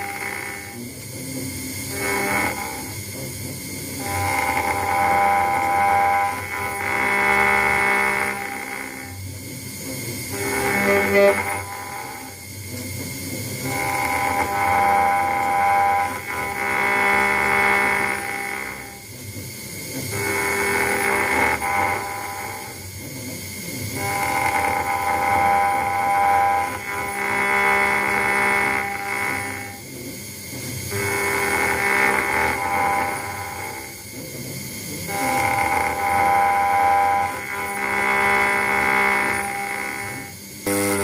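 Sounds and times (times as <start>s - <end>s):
engraving machine whine: 0.0s - 41.0s.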